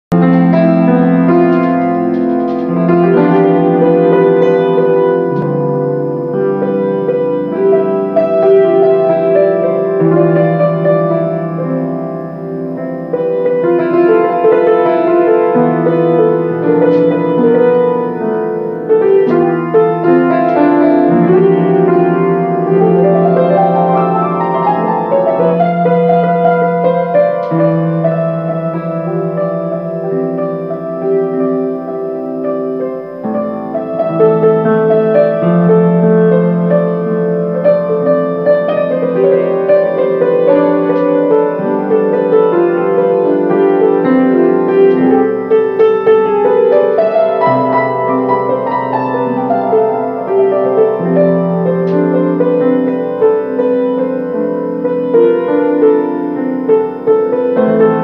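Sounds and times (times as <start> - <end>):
solo piano: 0.1 - 58.0.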